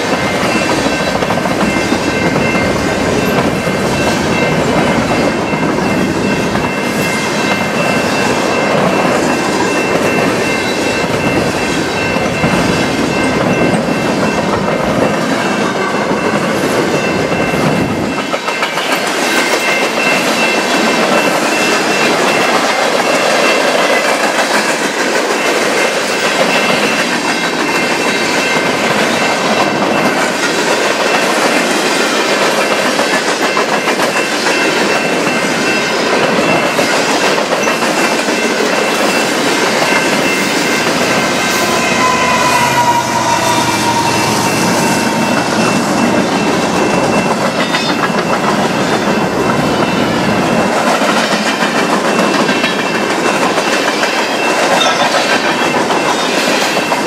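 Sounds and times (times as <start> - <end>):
deep train rumble: 0.0 - 53.7
train wheels clacking on rail joints: 0.0 - 57.0.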